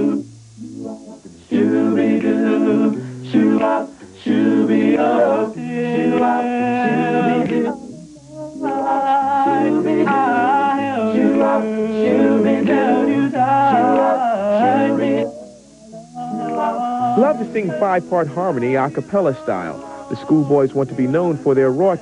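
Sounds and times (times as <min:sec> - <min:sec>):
male a cappella group singing: 0:00.0 - 0:22.0.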